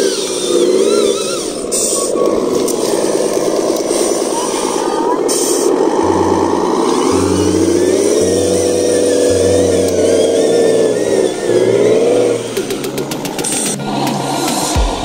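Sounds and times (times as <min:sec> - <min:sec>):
small electric motor whining: 0:00.0 - 0:14.8.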